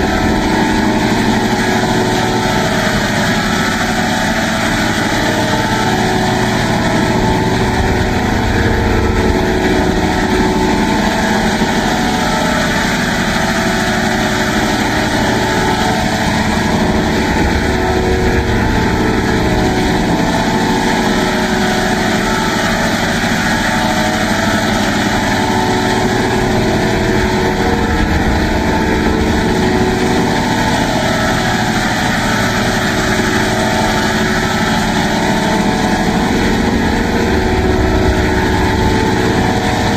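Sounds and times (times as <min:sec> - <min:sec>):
electronic buzzing drone: 0:00.0 - 0:39.9.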